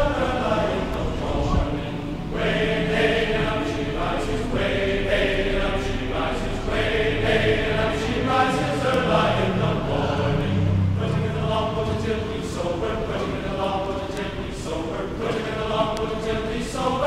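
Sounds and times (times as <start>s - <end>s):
voices singing choir-like chant: 0.0s - 17.0s.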